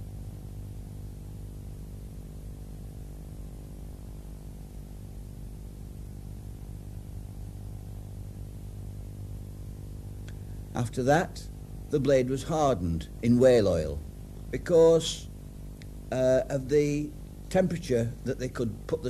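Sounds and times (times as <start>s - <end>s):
electrical hum: 0.0s - 19.0s
faint hiss: 0.0s - 19.0s.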